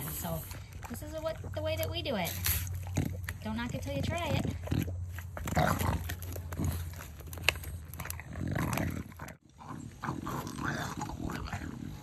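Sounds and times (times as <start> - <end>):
dog chewing: 0.0 - 12.0.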